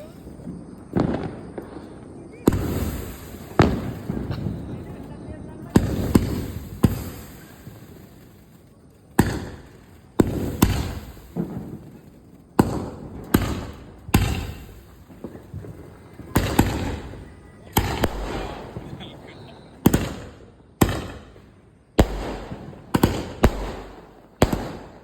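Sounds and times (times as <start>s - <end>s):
firecrackers banging: 0.0s - 25.0s.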